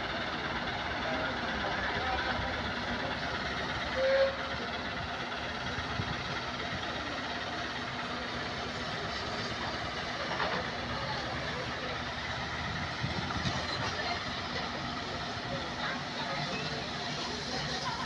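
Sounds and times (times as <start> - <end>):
shunting engine humming: 0.0 - 18.0.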